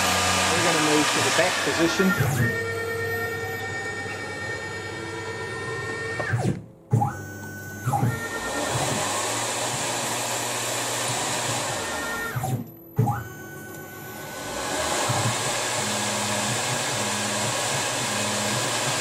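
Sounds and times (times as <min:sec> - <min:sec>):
lathe spindle whine: 0:00.0 - 0:06.4, 0:07.5 - 0:12.5, 0:13.2 - 0:19.0.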